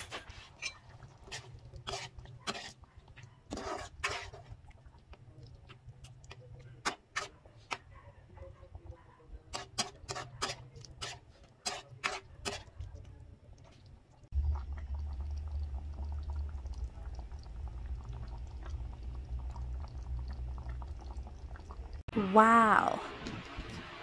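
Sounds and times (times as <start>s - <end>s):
sauce simmering and crackling: 0.0s - 7.4s, 9.5s - 22.1s.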